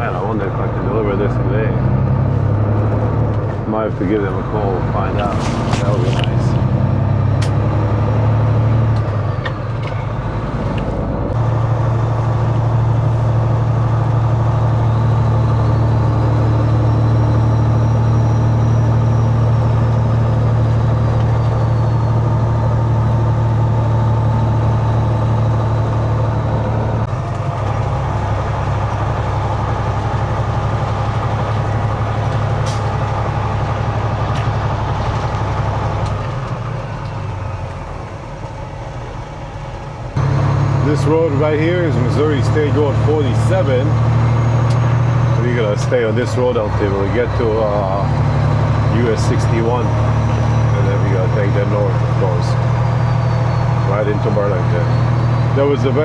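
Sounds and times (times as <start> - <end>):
truck diesel engine drone: 0.0 - 56.0.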